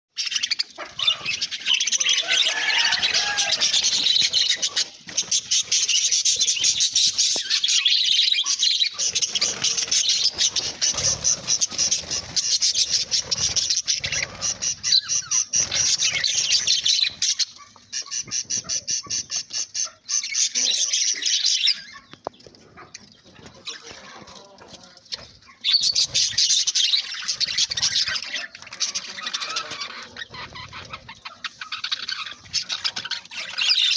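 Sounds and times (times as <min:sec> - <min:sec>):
budgerigar chattering: 0:00.3 - 0:22.1, 0:25.2 - 0:33.9.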